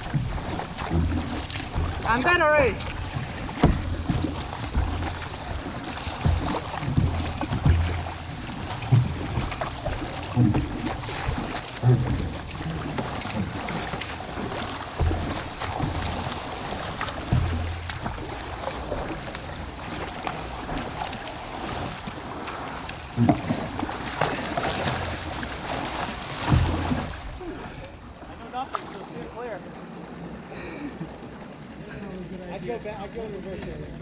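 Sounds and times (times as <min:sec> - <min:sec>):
low thumps on kayak hull: 0:00.0 - 0:28.3
paddle strokes splashing water: 0:00.0 - 0:34.0.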